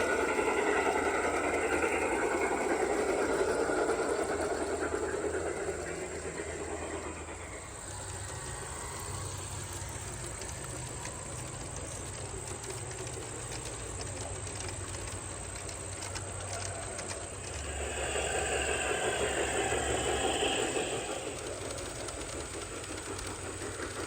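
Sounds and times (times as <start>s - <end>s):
model train humming and rattling: 0.0s - 24.0s.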